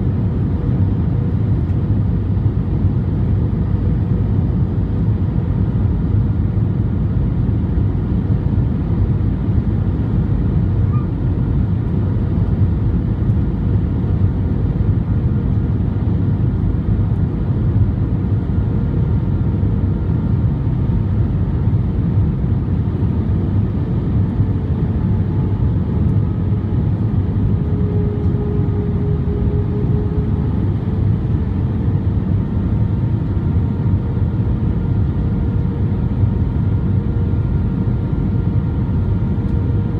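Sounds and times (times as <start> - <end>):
airplane engines and airflow rumble: 0.0 - 39.9.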